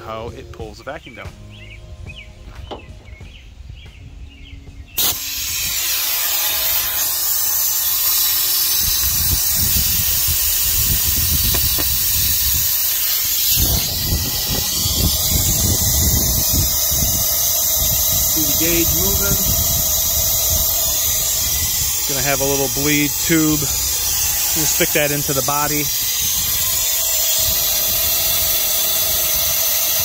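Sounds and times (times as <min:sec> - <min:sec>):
compressed air hissing: 0:05.0 - 0:30.0.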